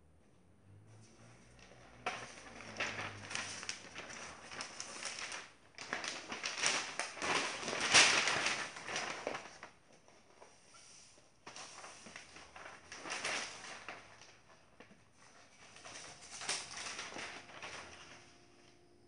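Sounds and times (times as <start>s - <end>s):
newspaper rustling and crinkling: 1.2s - 19.0s.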